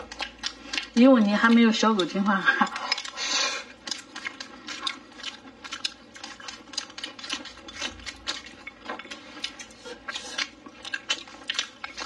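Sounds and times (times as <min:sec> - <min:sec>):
mouth chewing clicks: 0:00.0 - 0:03.2, 0:03.8 - 0:12.0.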